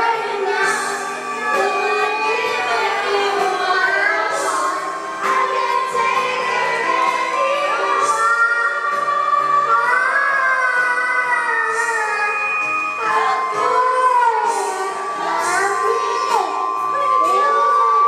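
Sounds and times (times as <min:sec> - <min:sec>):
amplified backing music: 0:00.0 - 0:18.0
girl singing into a microphone: 0:00.0 - 0:18.0.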